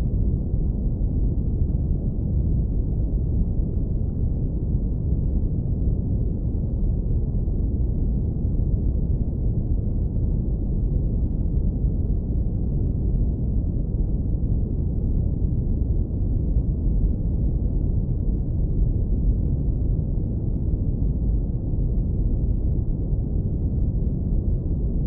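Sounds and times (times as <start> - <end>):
deep brown noise rumble: 0.0 - 25.0.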